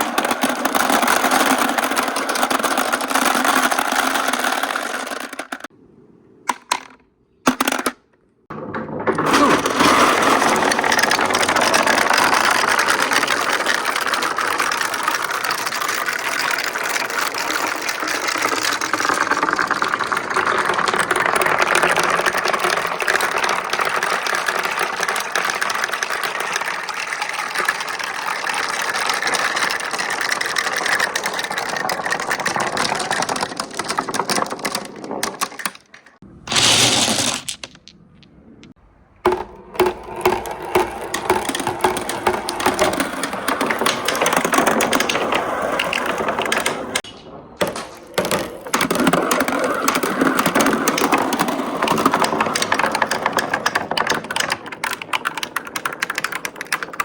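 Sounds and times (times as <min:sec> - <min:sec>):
marbles rattling on wooden track: 0:00.0 - 0:05.7, 0:06.5 - 0:38.7, 0:39.3 - 0:57.0.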